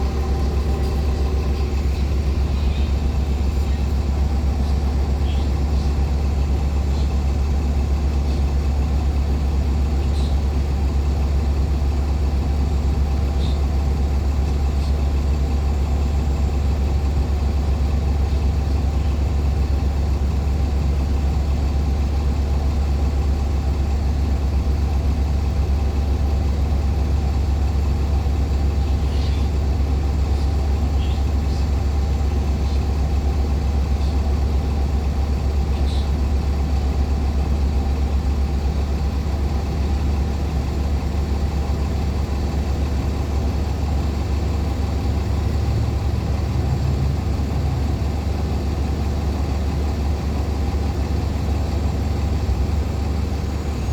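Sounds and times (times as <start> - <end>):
bus diesel engine droning: 0.0 - 53.9.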